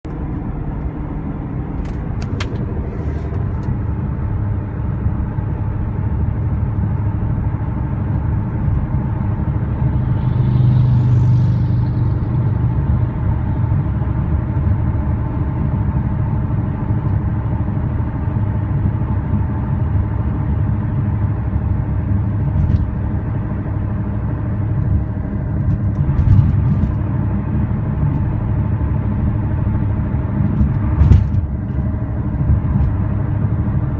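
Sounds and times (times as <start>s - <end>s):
car cabin road drone: 0.0s - 33.9s.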